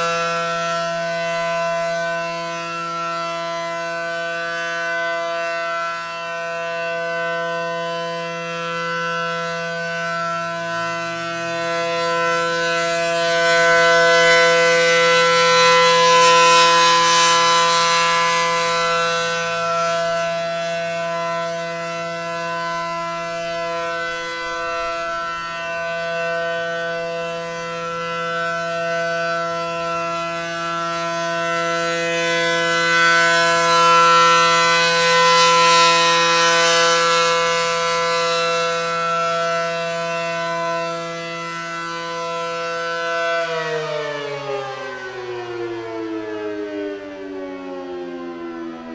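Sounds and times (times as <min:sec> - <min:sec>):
warning siren steady tone: 0:00.0 - 0:48.9.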